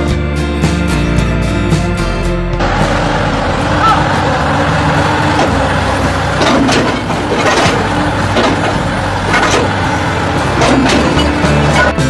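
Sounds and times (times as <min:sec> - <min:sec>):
heavy machine engine running: 0:00.0 - 0:12.0
metal clanks and knocks: 0:00.0 - 0:12.0.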